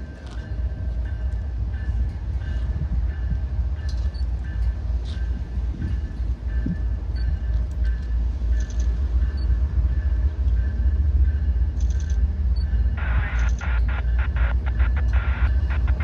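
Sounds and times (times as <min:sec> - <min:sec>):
freight train rumbling by: 0:00.0 - 0:16.0.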